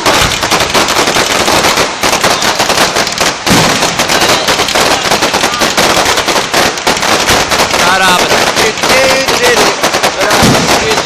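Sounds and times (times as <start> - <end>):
fireworks crackling and popping: 0.0 - 11.0
heavy firework bang: 0.0 - 11.0.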